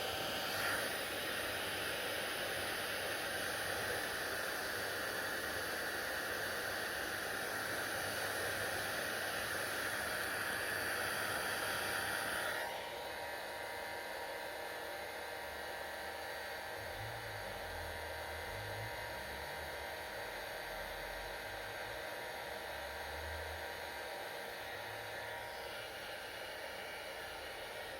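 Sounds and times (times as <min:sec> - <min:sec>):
hair dryer blowing: 0:00.0 - 0:27.9.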